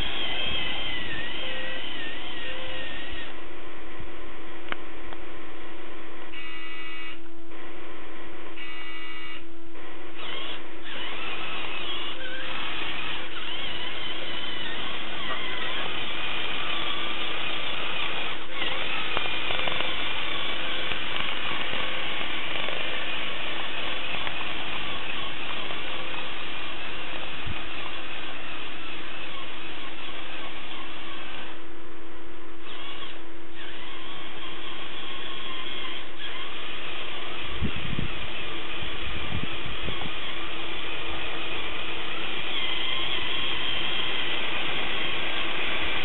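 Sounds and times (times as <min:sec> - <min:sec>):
toy motor whining: 0:00.0 - 0:03.4, 0:06.4 - 0:07.2, 0:08.6 - 0:09.4, 0:10.2 - 0:31.6, 0:32.6 - 0:46.0
short stuttering tones: 0:00.0 - 0:03.5, 0:06.2 - 0:31.8, 0:32.6 - 0:46.0.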